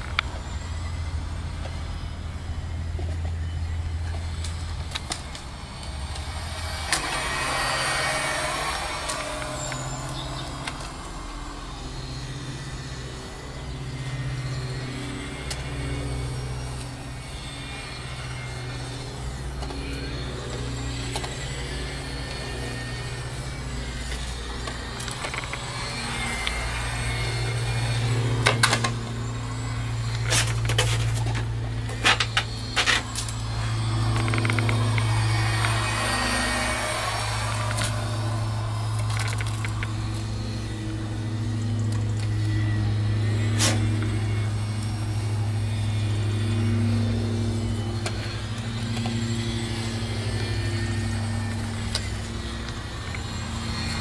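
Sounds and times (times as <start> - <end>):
electric motor whining: 0.0 - 54.0
steady low hum: 0.0 - 54.0.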